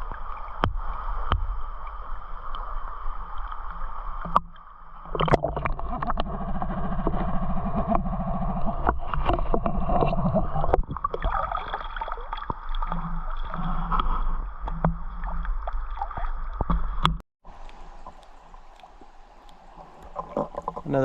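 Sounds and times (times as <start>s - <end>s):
quiet water hiss: 0.0s - 21.0s
water sloshing and gurgling: 0.0s - 21.0s.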